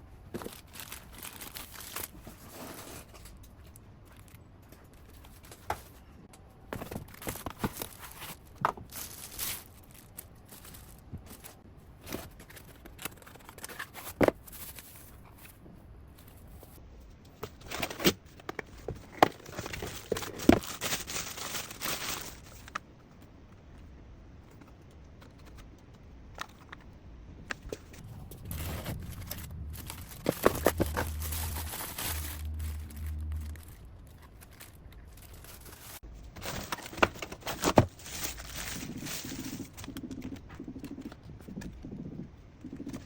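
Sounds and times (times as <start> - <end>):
faint low hum: 0.0 - 43.0
plastic and cardboard crinkling: 0.2 - 16.8, 17.4 - 23.8, 24.4 - 42.1.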